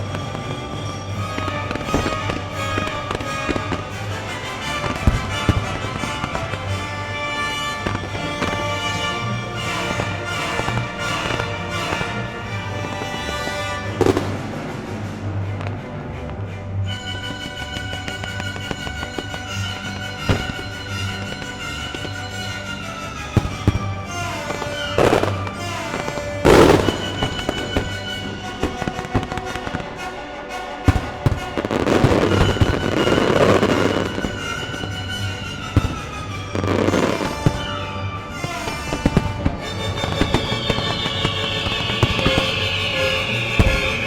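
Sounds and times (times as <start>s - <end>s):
show music: 1.2s - 15.2s, 16.9s - 44.0s
fireworks bursting: 1.3s - 14.8s, 16.9s - 30.0s, 30.9s - 44.0s.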